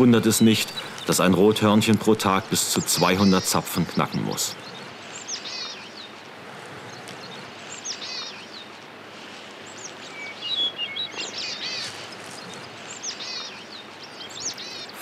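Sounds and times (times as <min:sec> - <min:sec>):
small birds chirping: 0:00.0 - 0:15.0
steady background hiss: 0:00.0 - 0:15.0.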